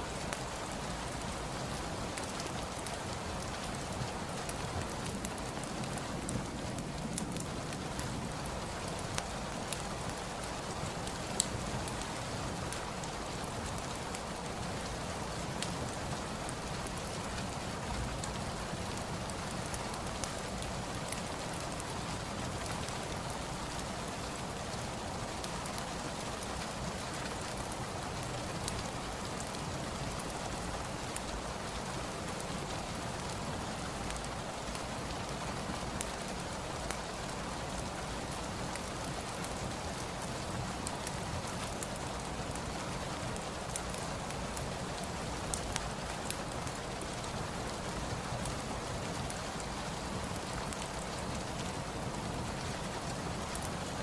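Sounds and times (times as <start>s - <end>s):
fireplace crackling and popping: 0.0s - 54.0s
steady rain falling: 0.0s - 54.0s.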